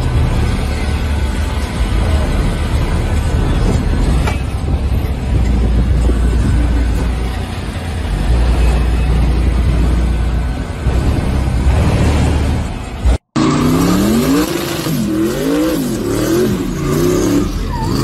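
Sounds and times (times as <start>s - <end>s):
car engines rumbling: 0.0s - 18.0s.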